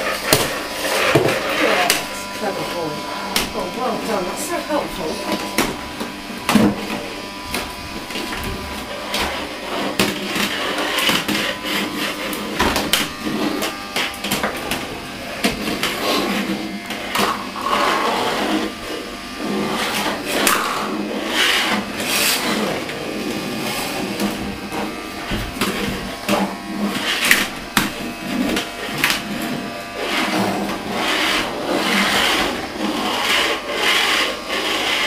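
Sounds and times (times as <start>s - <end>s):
toy vacuum motor whirring: 0.0s - 35.0s.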